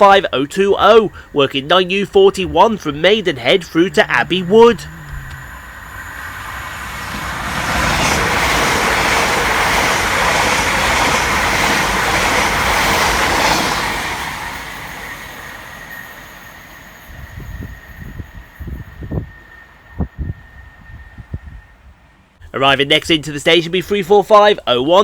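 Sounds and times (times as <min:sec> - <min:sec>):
electric train passing fast: 0:00.0 - 0:22.4.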